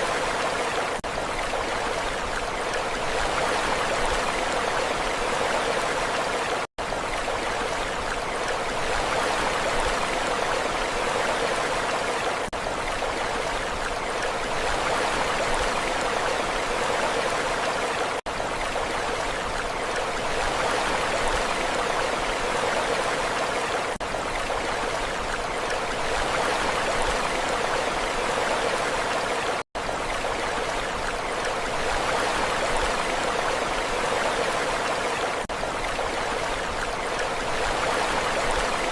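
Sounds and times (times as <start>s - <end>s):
steady rush of water: 0.0s - 38.9s.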